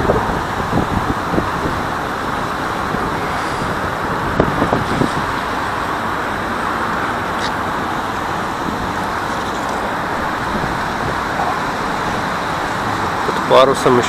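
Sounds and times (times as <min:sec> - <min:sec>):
distant road traffic: 0:00.0 - 0:14.0.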